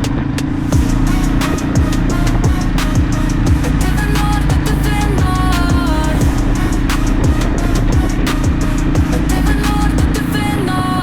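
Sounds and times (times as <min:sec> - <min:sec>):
electronic music with kick drums: 0:00.7 - 0:10.3
hi-hat ticks: 0:00.8 - 0:10.2
synth melody: 0:00.8 - 0:10.3.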